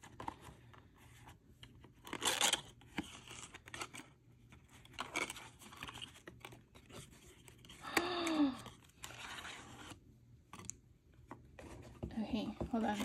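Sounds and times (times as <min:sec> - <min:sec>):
cardstock box rustling open: 0:00.0 - 0:07.8, 0:08.5 - 0:10.7, 0:11.3 - 0:13.0.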